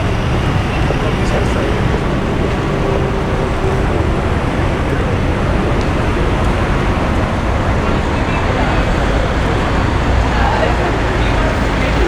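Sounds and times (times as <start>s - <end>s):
cars passing: 0.0s - 12.0s
tyres on road: 0.0s - 12.0s.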